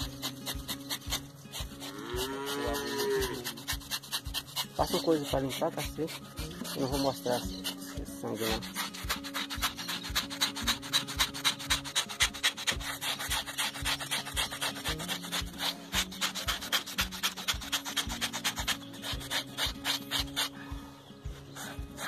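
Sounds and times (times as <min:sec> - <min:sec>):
knife scraping pig skin: 0:00.0 - 0:20.8.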